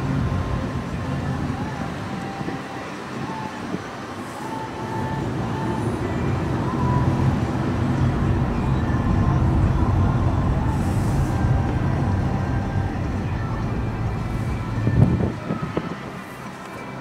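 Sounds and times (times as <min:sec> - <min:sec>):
engine and tyre rumble: 0:00.0 - 0:17.0.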